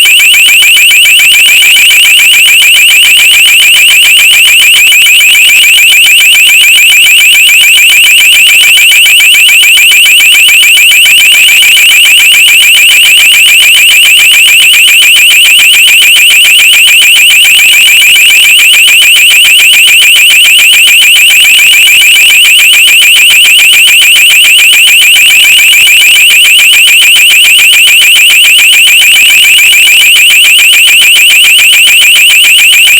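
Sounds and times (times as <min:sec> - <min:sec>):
high-pitched electronic alarm pulsing: 0:00.0 - 0:32.9.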